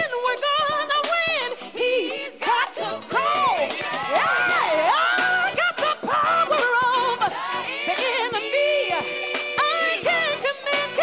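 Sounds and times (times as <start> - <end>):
band accompaniment: 0.0 - 11.0
person singing gospel: 1.8 - 11.0.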